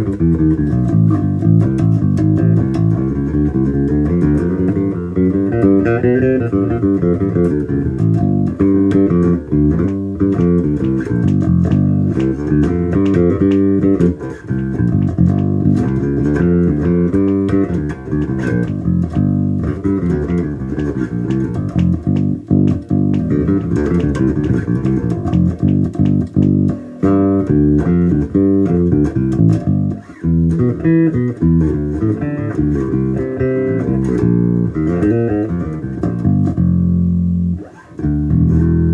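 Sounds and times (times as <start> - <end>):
electric bass guitar plucked notes: 0.0 - 38.9.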